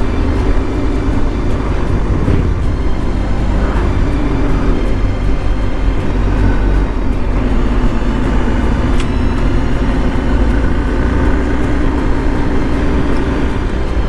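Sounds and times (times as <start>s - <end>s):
motorcycle engine running: 0.0s - 14.0s
rushing road and air noise: 0.0s - 14.0s.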